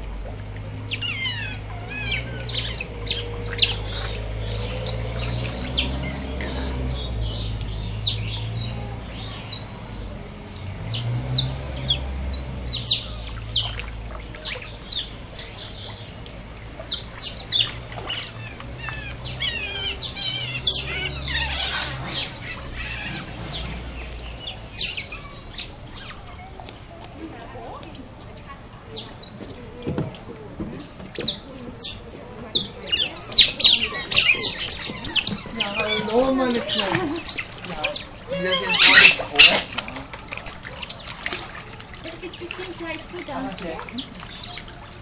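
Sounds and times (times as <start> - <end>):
otters squeaking: 0.9 - 8.5, 9.1 - 27.0, 28.2 - 45.0.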